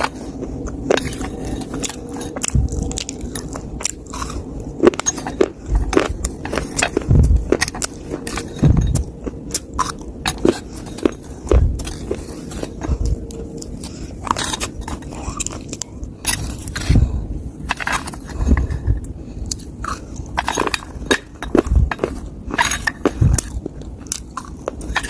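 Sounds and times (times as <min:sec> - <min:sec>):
crunching and chewing dry soil: 0:00.0 - 0:25.0.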